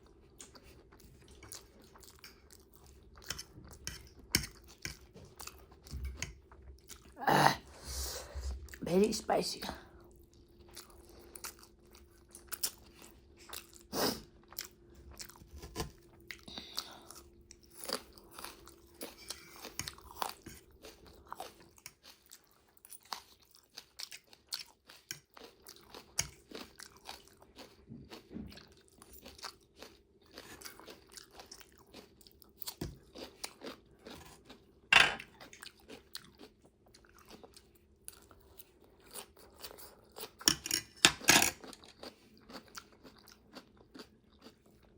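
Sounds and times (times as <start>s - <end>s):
chewing and crunching food: 0.0s - 7.2s, 8.3s - 44.9s.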